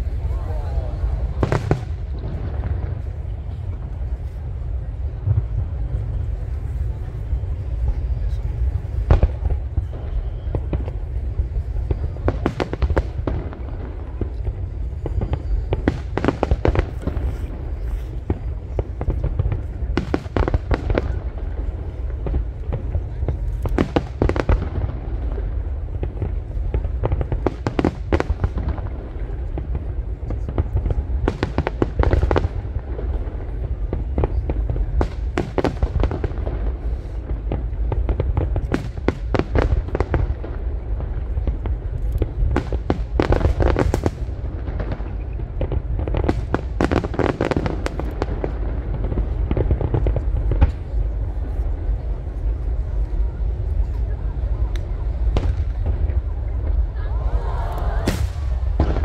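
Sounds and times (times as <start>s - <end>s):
continuous low rumble: 0.0s - 59.0s
fireworks bangs and crackles: 0.0s - 59.0s.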